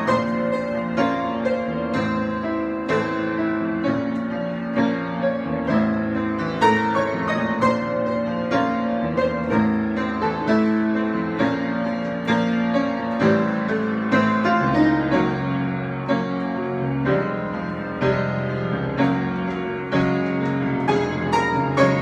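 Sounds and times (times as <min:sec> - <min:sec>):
solo piano chords and notes: 0:00.0 - 0:22.0.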